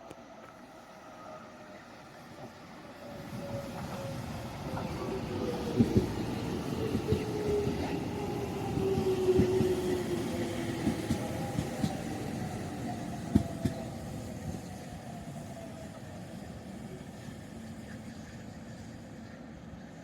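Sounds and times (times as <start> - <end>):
train rumble: 1.5 - 20.0.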